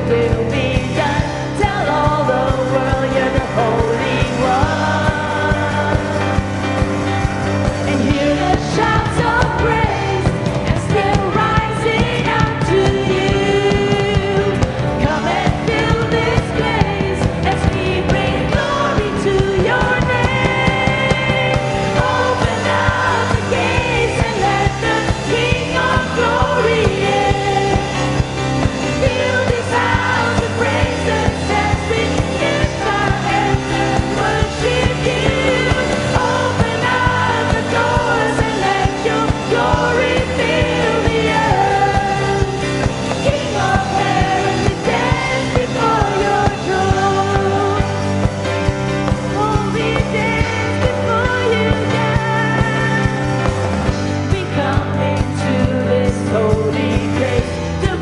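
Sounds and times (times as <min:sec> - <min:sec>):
drum and bass beat: 0:00.0 - 0:58.0
person singing: 0:00.0 - 0:58.0
worship band playing: 0:00.0 - 0:58.0.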